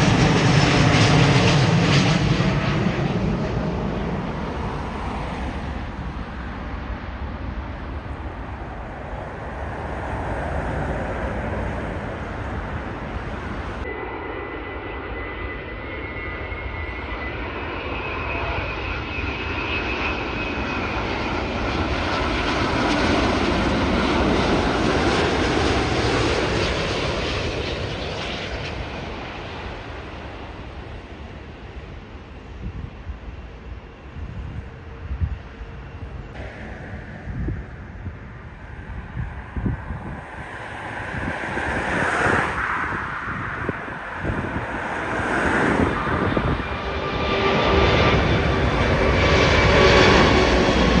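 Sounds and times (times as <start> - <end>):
jet airliner engines passing: 0.0 - 51.0.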